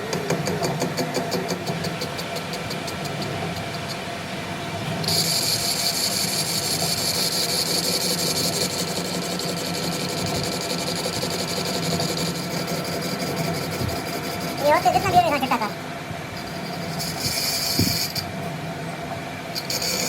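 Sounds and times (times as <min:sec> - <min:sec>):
workshop machinery humming: 0:00.0 - 0:20.0
high steady whine: 0:01.0 - 0:20.0.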